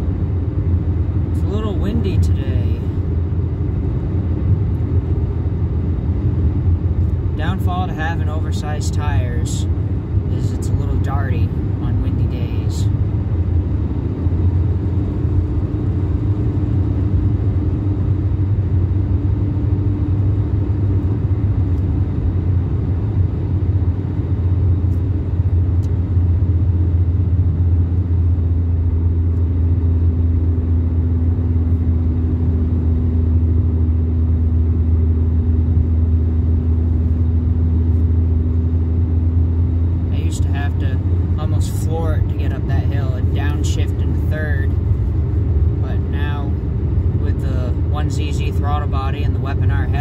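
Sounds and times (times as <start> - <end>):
car engine and road drone: 0.0 - 50.0.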